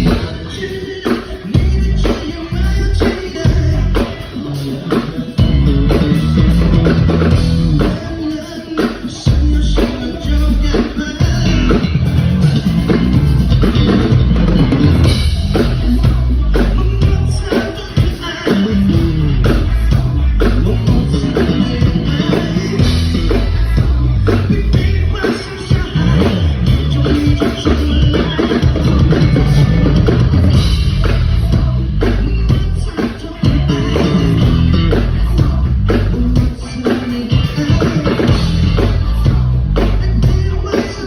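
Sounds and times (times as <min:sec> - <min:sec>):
electric bass: 0:00.0 - 0:08.3, 0:09.2 - 0:41.0.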